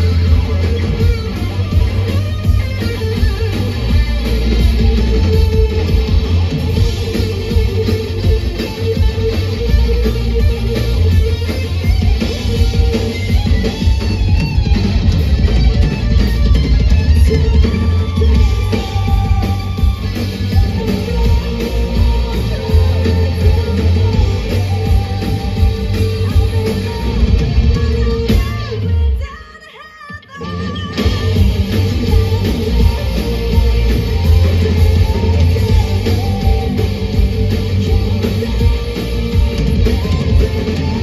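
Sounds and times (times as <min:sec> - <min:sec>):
heavy bass line: 0:00.0 - 0:28.9, 0:30.9 - 0:41.0
electric guitar: 0:00.0 - 0:29.5, 0:30.1 - 0:41.0
live rock band playing: 0:00.0 - 0:41.0.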